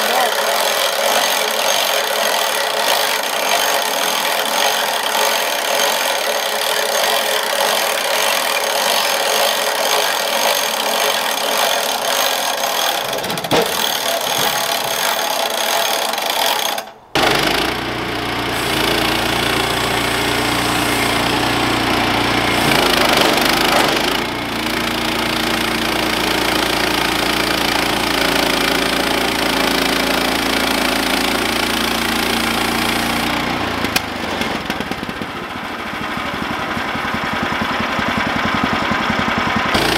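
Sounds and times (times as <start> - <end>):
bandsaw sawmill sawing log: 0.0 - 39.9.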